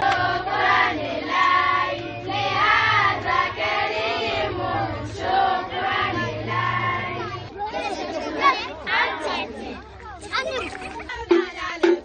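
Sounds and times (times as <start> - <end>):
women and girls singing in chorus: 0.0 - 12.0.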